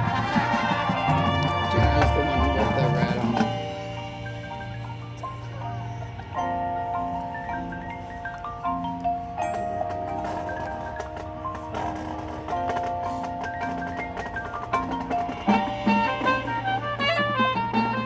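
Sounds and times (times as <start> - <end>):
marching band music: 0.0 - 18.0
marimba and bell-like notes: 1.1 - 18.0.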